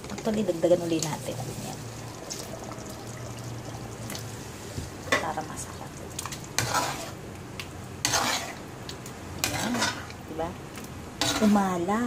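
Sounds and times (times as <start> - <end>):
curry simmering in a pan: 0.0 - 12.0.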